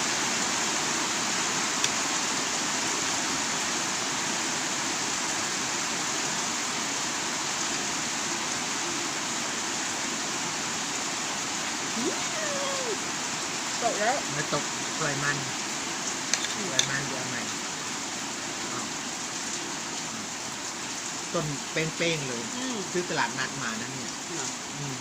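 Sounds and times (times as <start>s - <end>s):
rain falling steadily: 0.0s - 25.0s.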